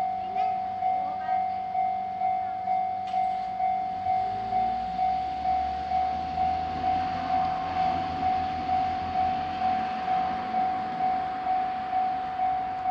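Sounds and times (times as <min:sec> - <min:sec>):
railroad crossing bell ringing: 0:00.0 - 0:12.9
train rumble: 0:00.0 - 0:12.9.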